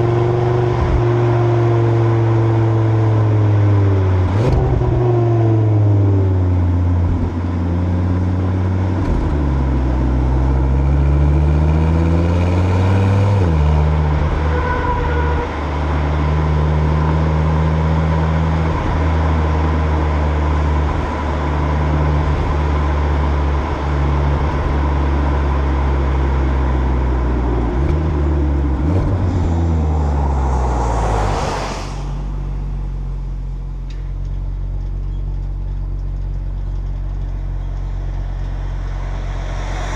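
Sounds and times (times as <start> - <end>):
car engine exhaust: 0.0 - 39.9.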